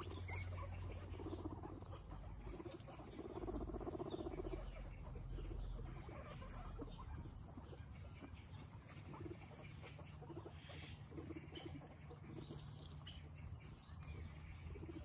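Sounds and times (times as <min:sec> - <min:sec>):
guinea pigs chewing: 0:00.0 - 0:15.0
rustling in straw: 0:00.0 - 0:15.0.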